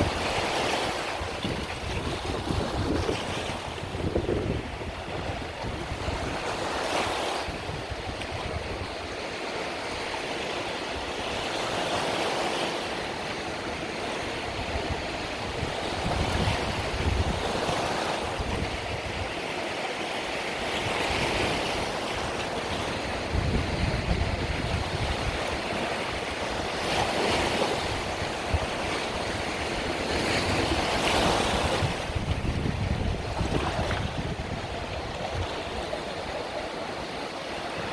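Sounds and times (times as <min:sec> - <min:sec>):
waves breaking on shore: 0:00.0 - 0:37.9
wind on microphone: 0:00.0 - 0:37.9.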